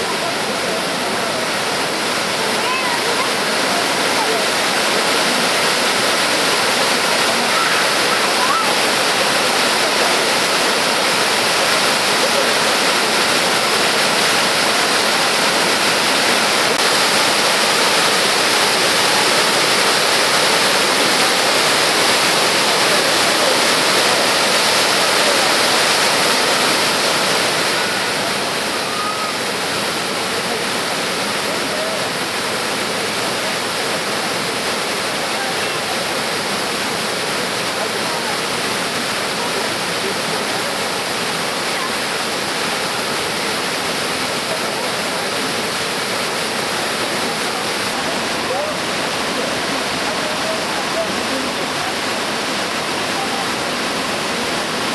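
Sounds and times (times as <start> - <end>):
waterfall roar: 0.0 - 54.9.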